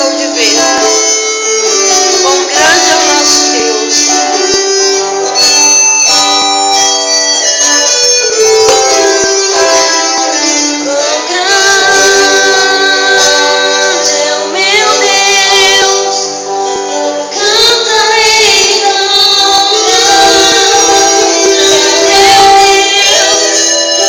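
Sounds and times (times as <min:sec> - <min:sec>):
instrumental accompaniment: 0:00.0 - 0:24.0.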